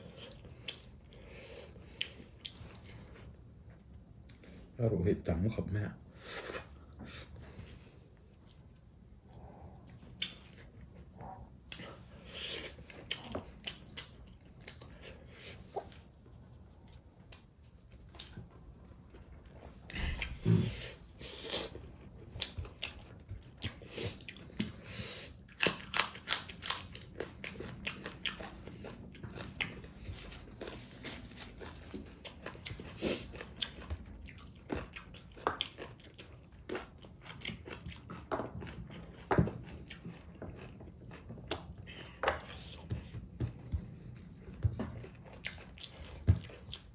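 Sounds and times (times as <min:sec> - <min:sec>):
chewing with crunchy bites: 0:00.0 - 0:04.8, 0:06.2 - 0:46.9.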